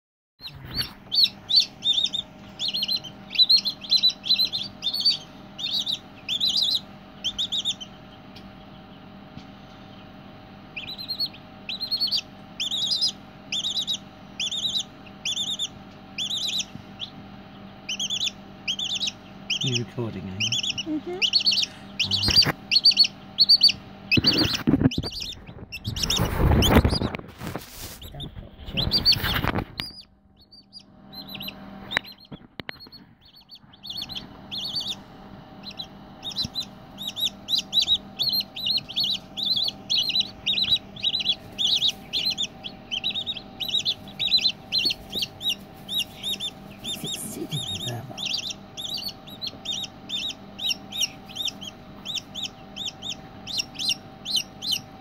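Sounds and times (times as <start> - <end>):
chick peeping: 0.4 - 55.0
faint steady hum: 0.4 - 55.0.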